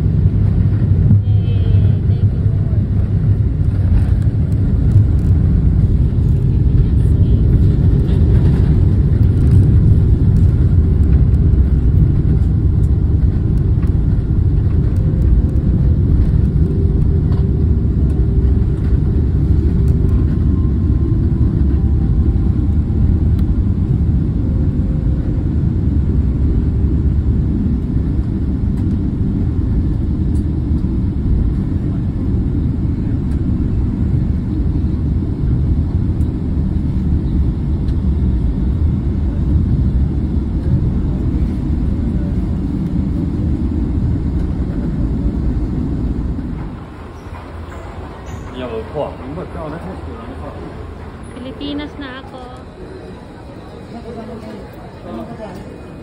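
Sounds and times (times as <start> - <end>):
jet engines and wheels rumbling: 0.0 - 56.0.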